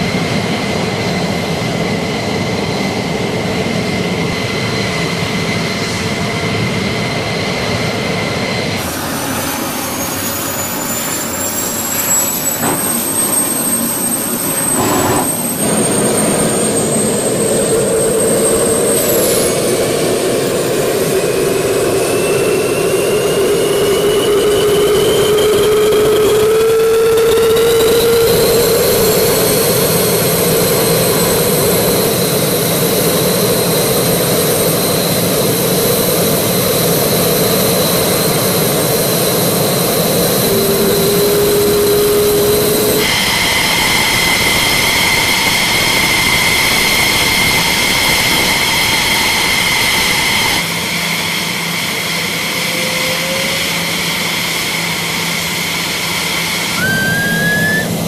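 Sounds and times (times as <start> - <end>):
jet engine roar with whine: 0.0 - 58.0.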